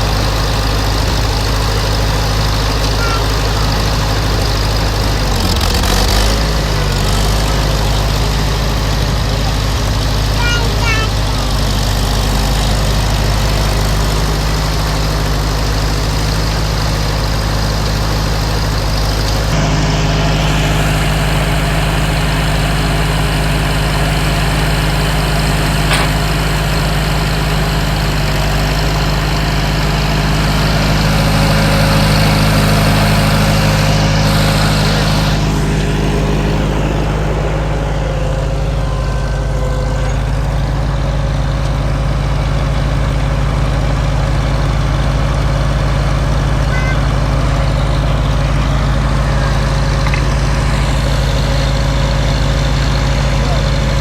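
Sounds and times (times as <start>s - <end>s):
tractor engine idling: 0.0s - 54.0s.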